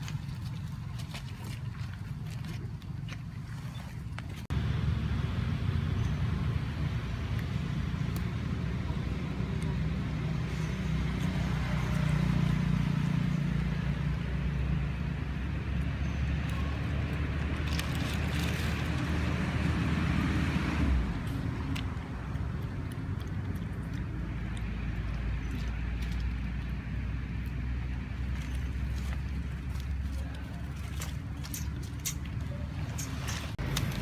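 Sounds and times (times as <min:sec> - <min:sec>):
motor vehicle engine hum: 0:00.0 - 0:34.0.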